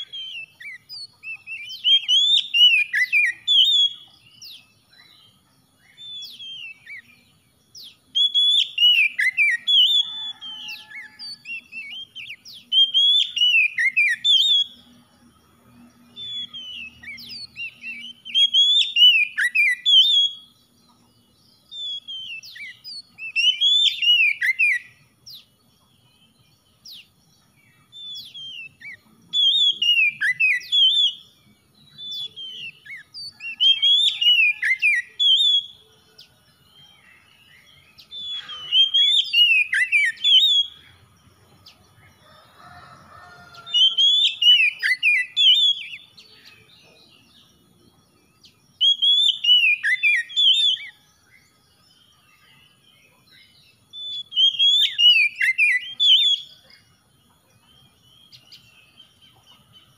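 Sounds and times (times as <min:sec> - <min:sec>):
bird singing whistled phrases: 0:00.0 - 0:14.9, 0:16.0 - 0:25.5, 0:27.7 - 0:41.0, 0:43.6 - 0:56.9.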